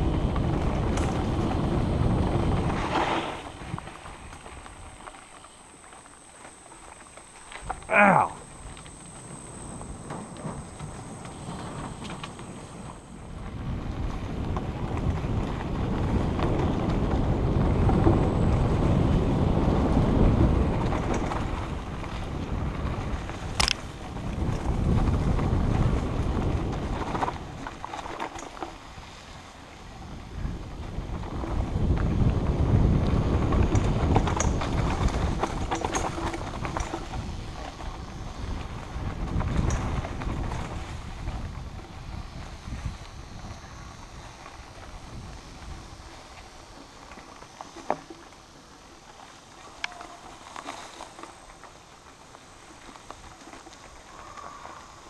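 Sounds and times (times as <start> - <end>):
wind buffeting microphone: 0.0 - 5.2, 7.5 - 47.8
bike tyres over grassy trail: 0.0 - 55.0.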